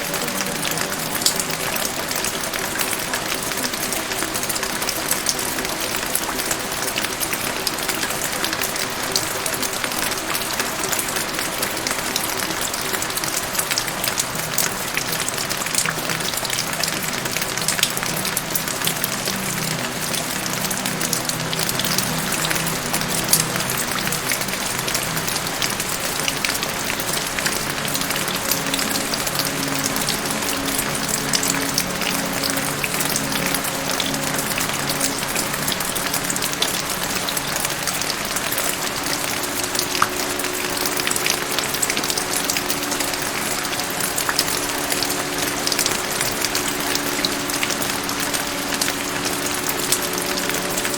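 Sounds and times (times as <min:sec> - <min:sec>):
soft music of low notes: 0:00.0 - 0:50.9
steady rain: 0:00.0 - 0:50.9.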